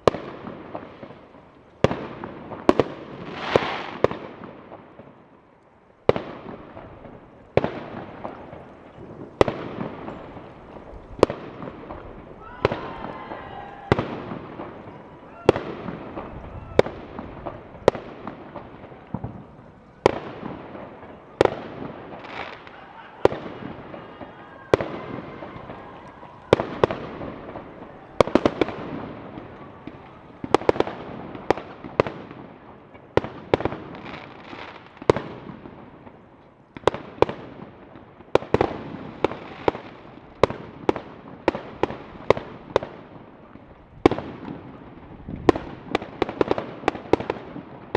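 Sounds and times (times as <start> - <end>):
fireworks banging: 0.0 - 47.9
fireworks crackling: 0.0 - 47.9.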